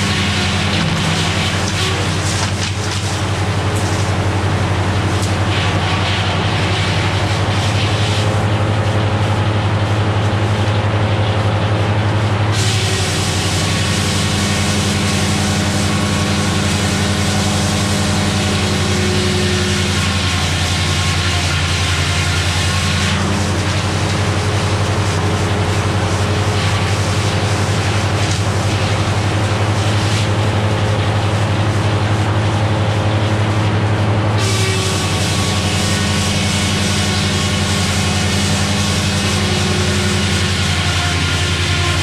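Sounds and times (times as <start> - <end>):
saw blade cutting log: 0.0 - 8.5, 12.5 - 42.0
diesel engine running: 0.0 - 42.0.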